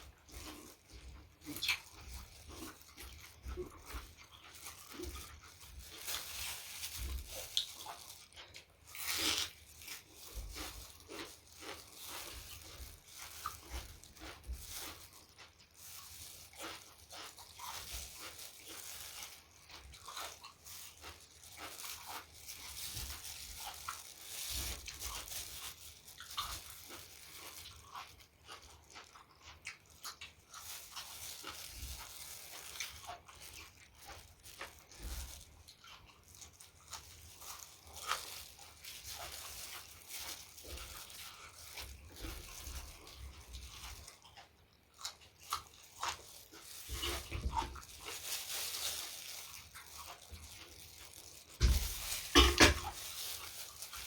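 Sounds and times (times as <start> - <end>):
person chewing and crunching: 0.0 - 54.0.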